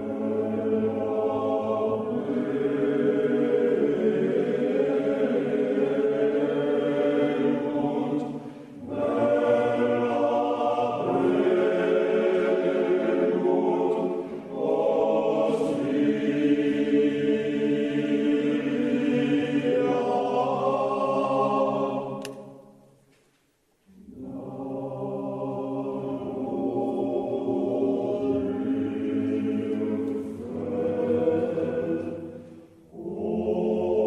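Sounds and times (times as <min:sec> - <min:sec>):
choir-like chord music: 0:00.0 - 0:23.0, 0:23.9 - 0:34.0.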